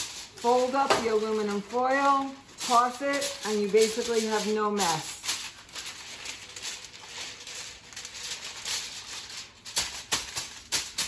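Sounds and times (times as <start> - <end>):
aluminum foil crinkling: 0.0 - 11.0.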